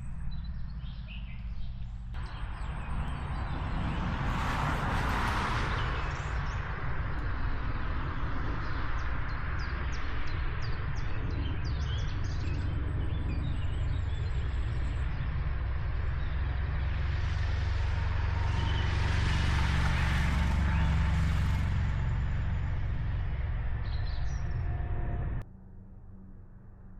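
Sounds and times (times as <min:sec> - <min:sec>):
birds chirping: 0:00.0 - 0:04.5, 0:05.6 - 0:24.9
low vehicle rumble: 0:00.0 - 0:26.9.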